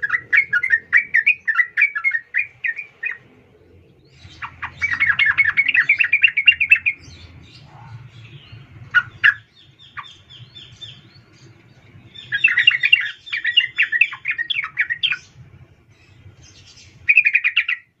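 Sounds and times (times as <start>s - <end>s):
bulbul chattering calls: 0.0s - 18.0s.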